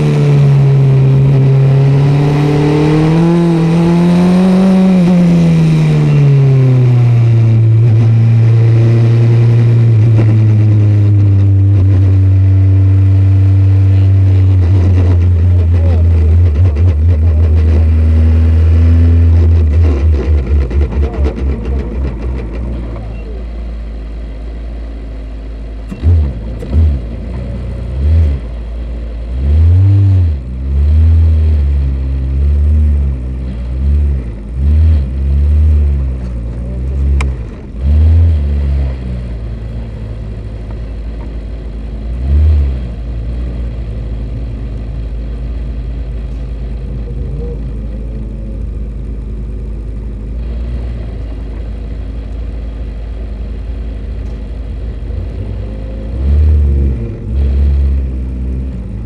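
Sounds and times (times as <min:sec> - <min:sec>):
racing car engine revving: 0:00.0 - 0:23.6, 0:25.8 - 0:41.4, 0:42.0 - 0:52.8, 0:53.6 - 0:59.0.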